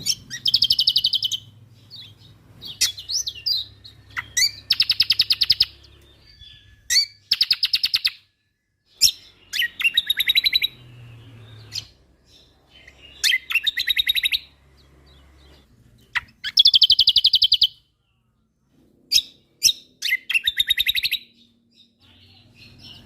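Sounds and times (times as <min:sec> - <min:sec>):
bird singing fast trills: 0:00.0 - 0:18.0, 0:19.1 - 0:23.0.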